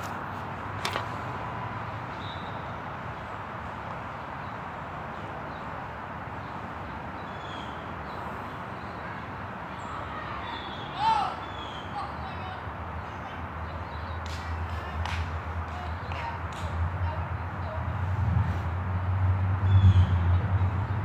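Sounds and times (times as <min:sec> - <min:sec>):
city background noise: 0:00.0 - 0:21.0.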